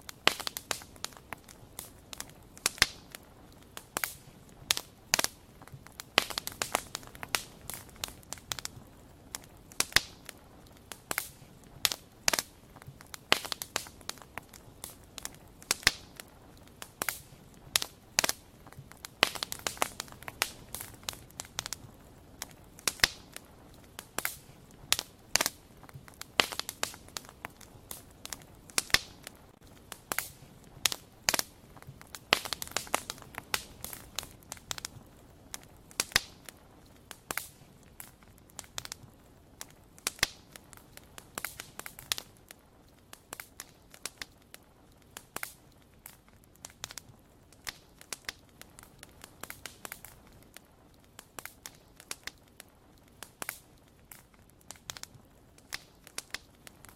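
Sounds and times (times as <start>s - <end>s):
faint hiss: 0.0s - 56.9s
wood fire crackling: 0.0s - 56.9s.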